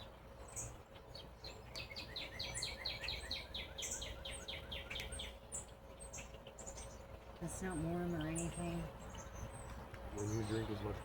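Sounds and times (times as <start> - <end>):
songbird singing down-slurred notes: 0.0 - 11.0.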